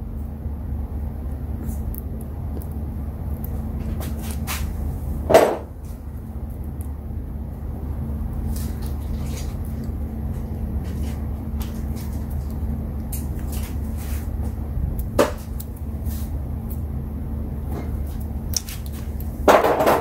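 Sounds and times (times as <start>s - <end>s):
steady low hum: 0.0s - 20.0s
crackling rustle: 1.0s - 19.6s
wire handling sounds: 1.6s - 7.0s, 8.3s - 16.9s, 17.7s - 20.0s.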